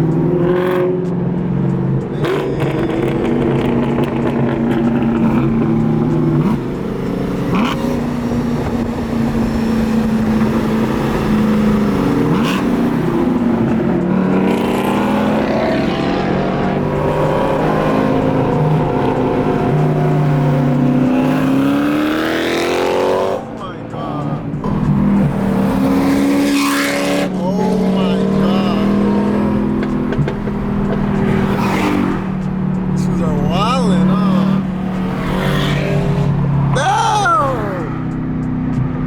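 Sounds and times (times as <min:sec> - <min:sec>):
car engine accelerating: 0:00.0 - 0:39.0
car engines cruising: 0:00.0 - 0:39.0.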